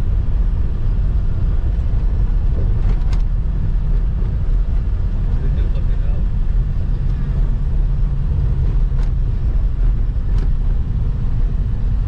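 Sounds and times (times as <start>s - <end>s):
road vehicle rumbling: 0.0s - 12.0s.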